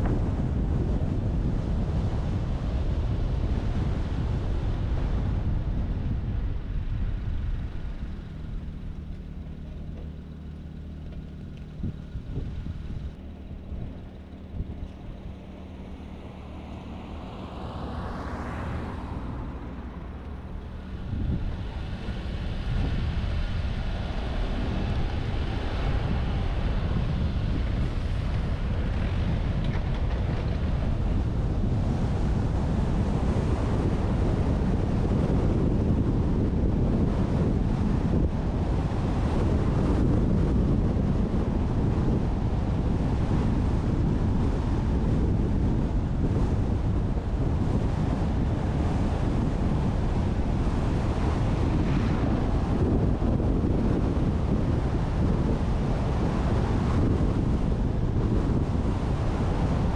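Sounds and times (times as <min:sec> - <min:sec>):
low hum: 0:00.0 - 0:59.9
wind and road noise: 0:00.0 - 0:59.9.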